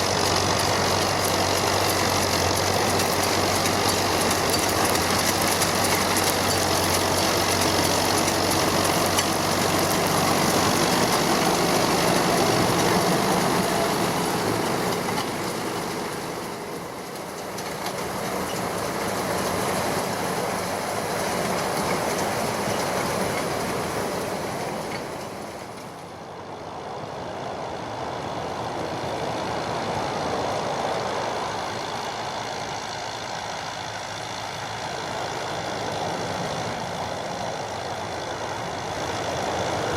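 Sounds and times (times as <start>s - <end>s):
round baler working straw: 0.0s - 39.9s
tractor diesel engine under load: 0.0s - 39.9s.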